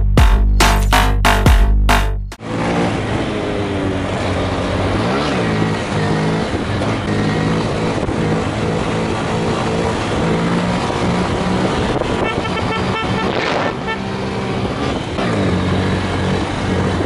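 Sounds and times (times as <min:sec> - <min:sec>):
motorcycle engine running: 0:02.4 - 0:17.0
wind and road noise: 0:02.4 - 0:17.0.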